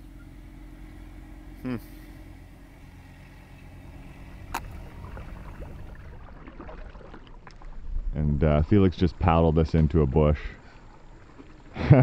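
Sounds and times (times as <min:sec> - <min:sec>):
distant engine hum: 0:00.0 - 0:12.0.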